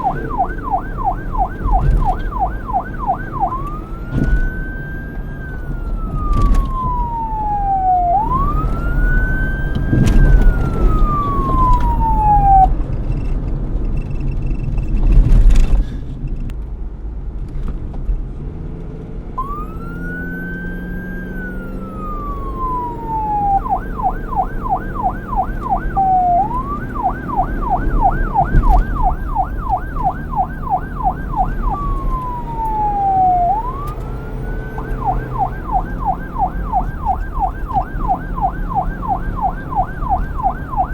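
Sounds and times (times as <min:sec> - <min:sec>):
police siren wail and yelp: 0:00.0 - 0:12.8, 0:19.4 - 0:40.9
traffic rumbling: 0:00.0 - 0:40.9.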